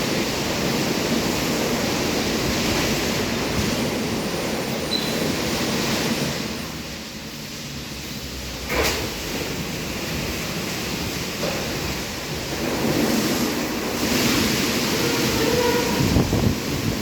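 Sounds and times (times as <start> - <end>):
car wash spraying water: 0.0 - 17.0.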